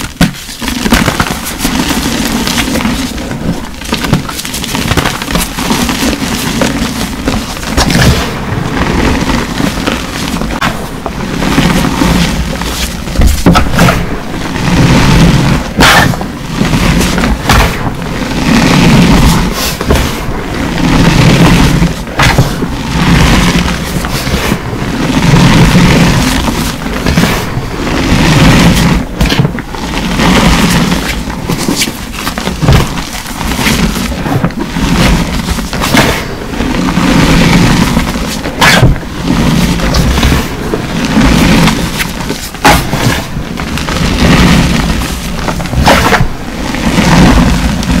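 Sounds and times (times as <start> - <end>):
hands crushing chalk blocks: 0.0 - 24.6, 28.2 - 36.3, 36.9 - 48.0
sharp chalk cracks: 0.0 - 48.0.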